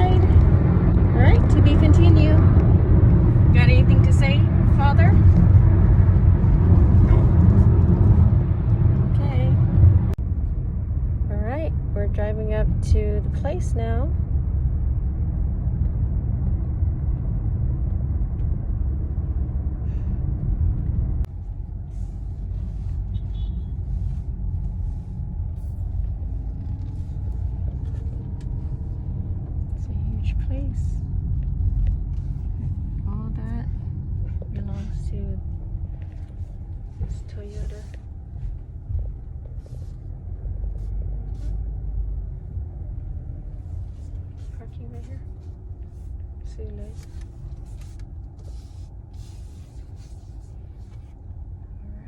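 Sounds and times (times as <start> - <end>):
road and engine rumble in car: 0.0 - 52.0.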